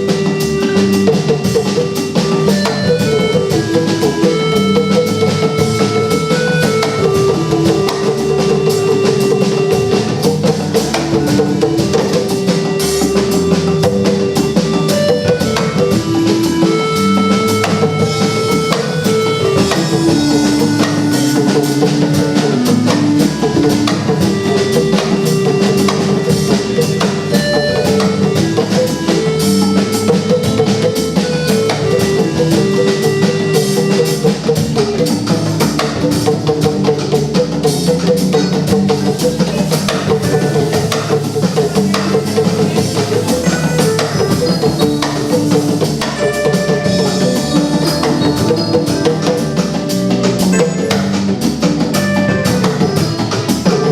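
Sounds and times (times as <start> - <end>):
music with drum and percussion beat: 0.0 - 53.9.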